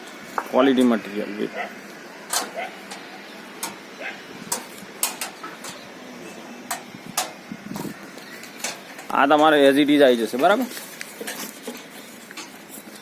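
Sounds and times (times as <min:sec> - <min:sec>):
faint voices: 0:00.4 - 0:13.0.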